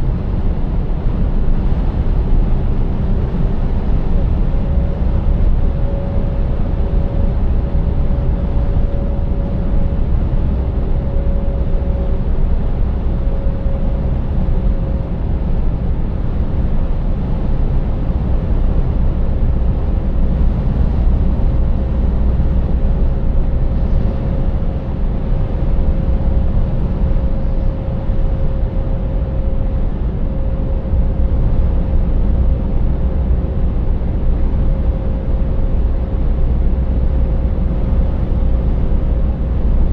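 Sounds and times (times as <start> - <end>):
diesel truck engine droning: 0.0 - 39.9
faint steady whine: 0.0 - 39.9.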